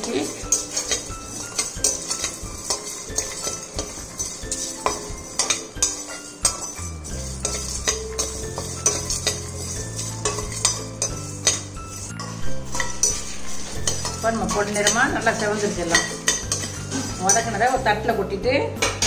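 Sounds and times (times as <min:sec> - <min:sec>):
metal spatula scraping a pan: 0:00.0 - 0:18.0
background music: 0:00.0 - 0:19.0.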